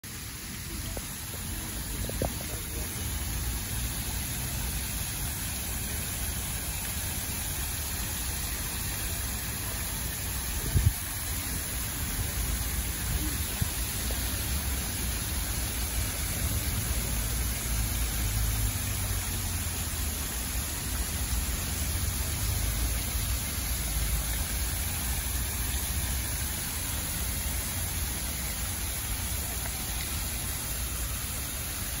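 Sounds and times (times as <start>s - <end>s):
fountain water splashing: 0.0s - 32.0s.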